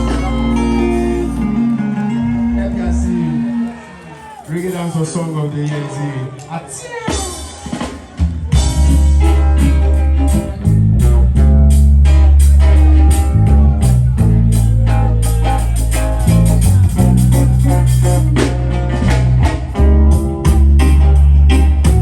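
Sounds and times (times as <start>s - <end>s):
reggae music with heavy bass: 0.0s - 5.0s, 7.0s - 22.0s.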